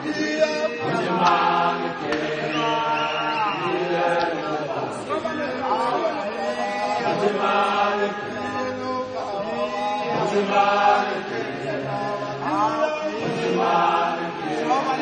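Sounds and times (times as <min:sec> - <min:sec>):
men's voices chanting: 0:00.0 - 0:15.0.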